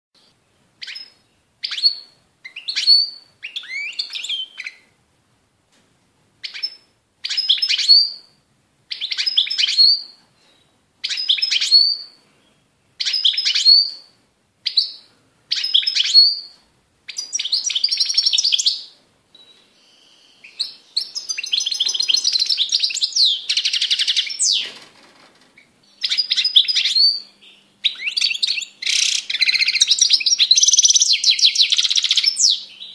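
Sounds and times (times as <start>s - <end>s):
bird twittering song: 0.2s - 4.9s, 6.4s - 8.3s, 8.9s - 24.7s, 25.6s - 32.9s.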